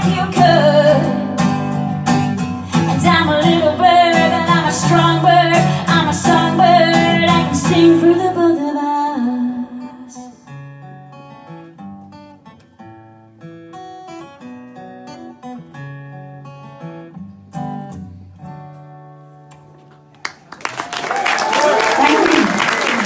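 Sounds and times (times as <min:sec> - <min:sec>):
acoustic guitar notes picked: 0:00.0 - 0:20.1.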